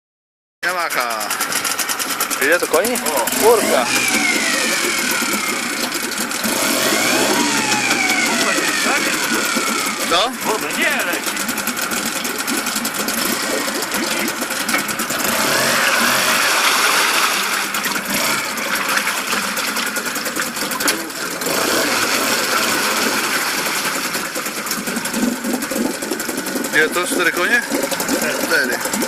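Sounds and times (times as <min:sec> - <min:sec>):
outboard motor rattly buzz: 0:00.6 - 0:29.0.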